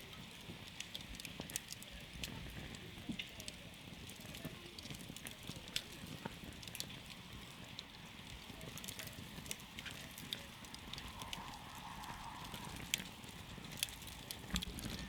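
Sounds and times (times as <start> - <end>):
campfire crackling and popping: 0.0 - 15.0
low rumble of flames: 0.0 - 15.0.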